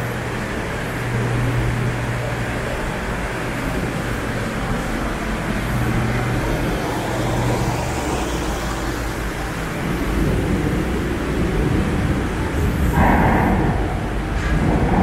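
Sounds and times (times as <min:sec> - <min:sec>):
low drone: 0:00.0 - 0:15.0
underground tunnel rumble: 0:00.0 - 0:15.0.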